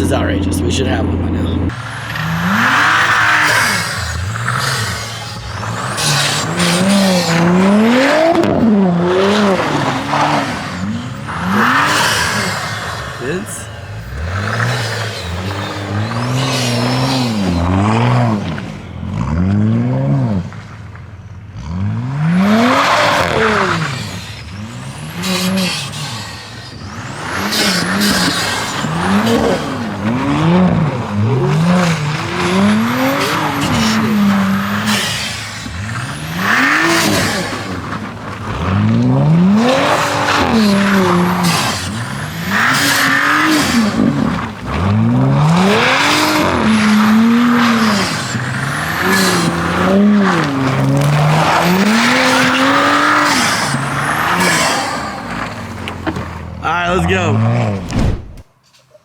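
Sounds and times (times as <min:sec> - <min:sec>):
car engine revving: 0:00.0 - 0:58.6
tyres spinning on snow: 0:00.0 - 0:59.0.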